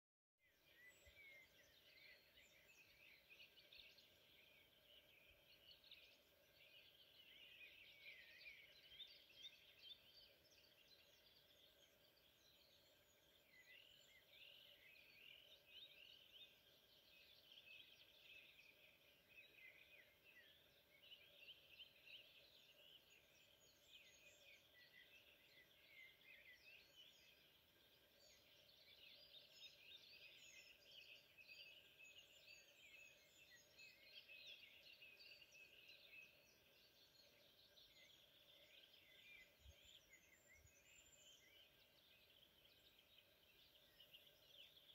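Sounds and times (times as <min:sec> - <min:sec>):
songbirds chirping and trilling: 0:00.4 - 0:44.9
low steady hiss: 0:00.5 - 0:44.9.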